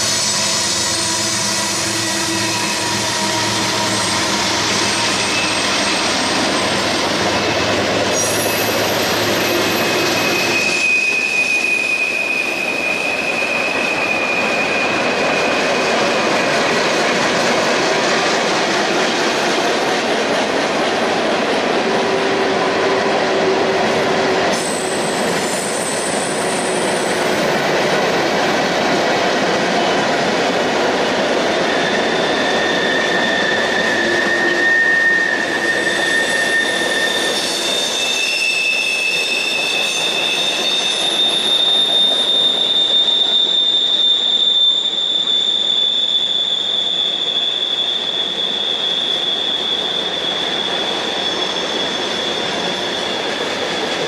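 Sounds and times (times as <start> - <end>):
train wheel squeal: 0.0 - 54.0
train wheels rumbling on rails: 0.0 - 54.0.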